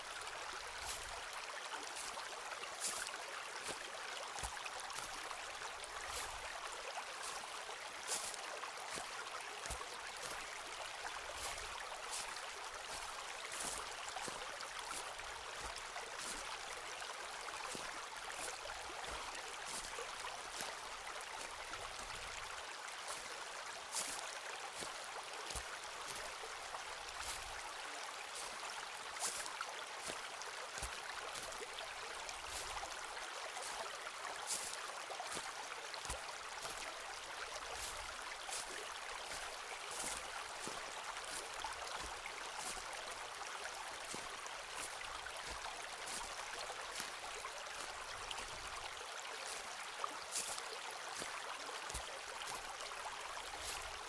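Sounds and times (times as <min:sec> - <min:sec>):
footsteps crunching on forest path: 0:00.0 - 0:54.0
running water rushing: 0:00.0 - 0:54.0.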